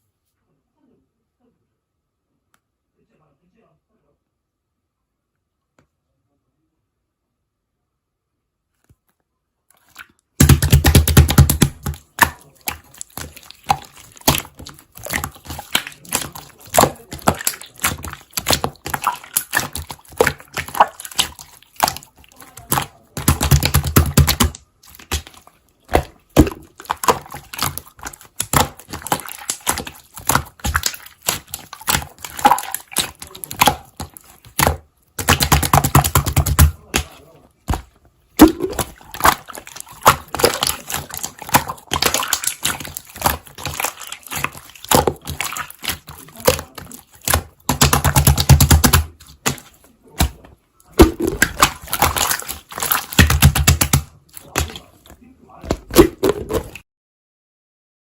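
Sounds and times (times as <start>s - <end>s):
slime squishing by hand: 9.7s - 56.8s.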